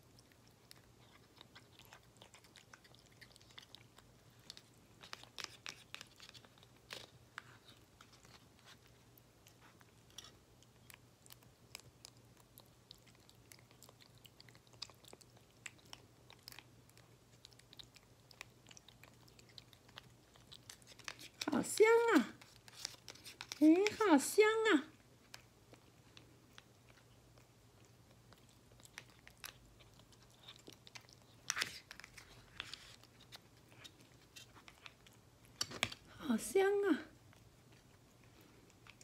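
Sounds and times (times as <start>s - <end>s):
cat chewing and licking: 0.0s - 24.2s, 24.9s - 36.2s, 37.1s - 39.0s.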